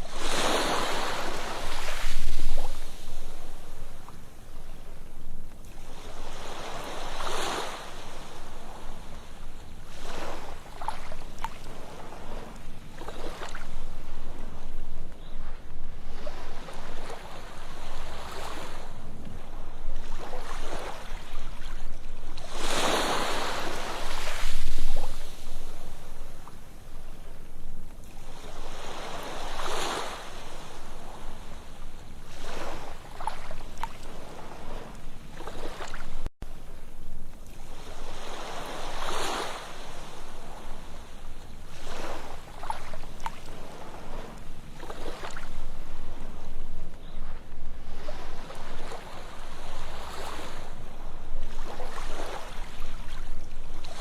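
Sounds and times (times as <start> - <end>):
ocean waves washing on beach: 0.0 - 54.0.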